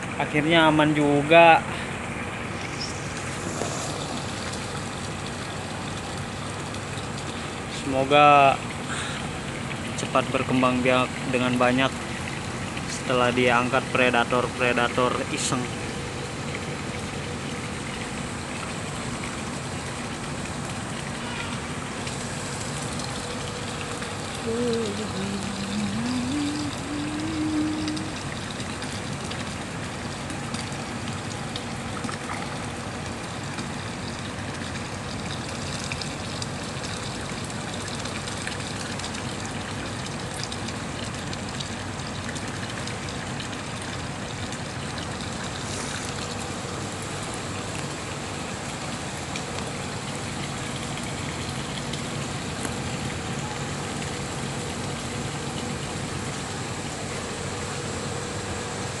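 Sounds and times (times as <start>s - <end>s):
water splashing into pond: 0.9s - 59.0s.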